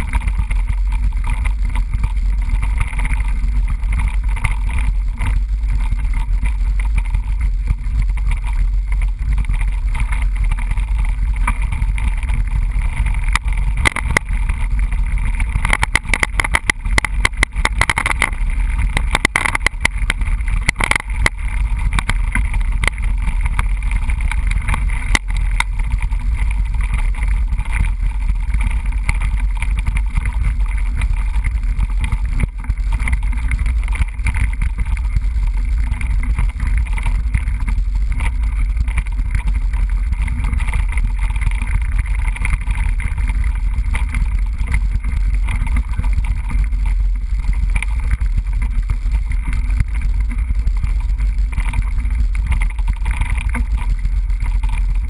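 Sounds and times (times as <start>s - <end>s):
bike rattling on rough ground: 0.0s - 55.0s
wind and tyre rumble: 0.0s - 55.0s.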